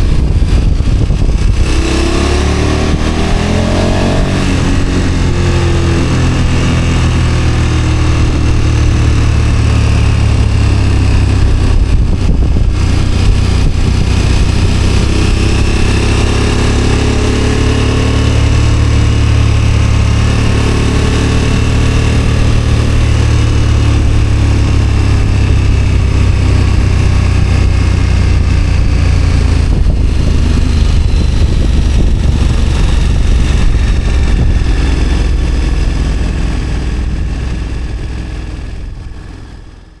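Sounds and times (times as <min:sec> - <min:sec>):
motorcycle engine running: 0:00.0 - 0:40.0
wind rush on microphone: 0:00.0 - 0:40.0.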